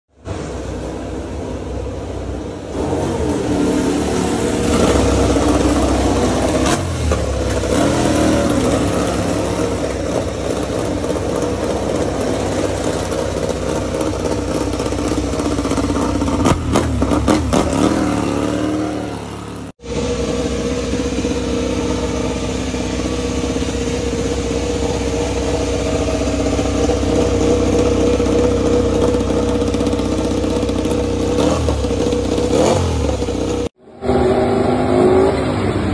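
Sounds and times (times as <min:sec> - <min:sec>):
motorcycle engine running steadily: 0:00.2 - 0:33.8
motorcycle engine revving: 0:00.3 - 0:35.9.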